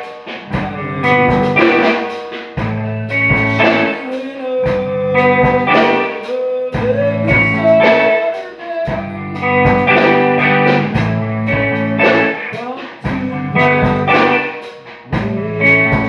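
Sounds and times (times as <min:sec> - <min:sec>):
blues guitar: 0:00.0 - 0:16.0
drum kit beat: 0:00.0 - 0:16.0.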